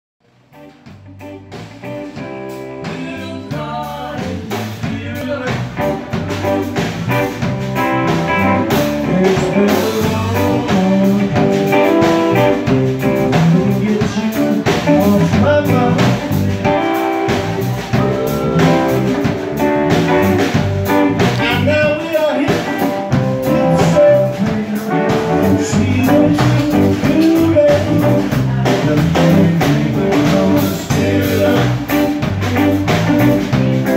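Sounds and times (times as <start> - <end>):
live blues band playing: 0.3 - 33.9.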